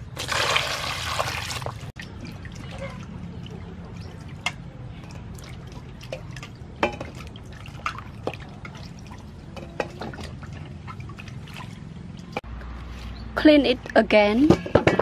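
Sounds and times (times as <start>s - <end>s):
water splashes and drips: 0.0s - 13.1s.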